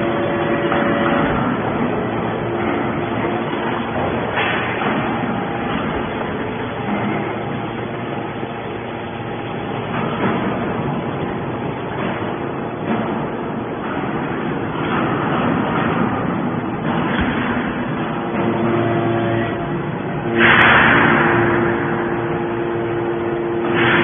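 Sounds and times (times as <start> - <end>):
can baler machine running: 0.0 - 24.0.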